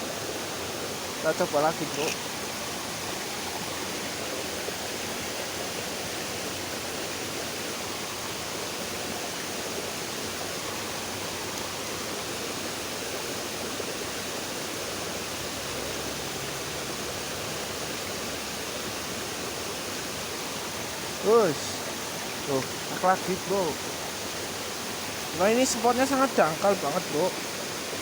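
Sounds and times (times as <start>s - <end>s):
shallow river flowing: 0.0s - 28.0s.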